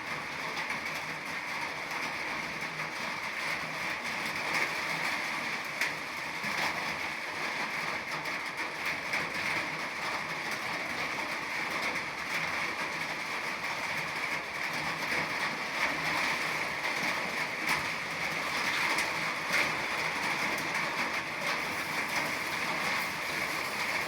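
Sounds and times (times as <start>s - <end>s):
rain: 0.0s - 24.0s.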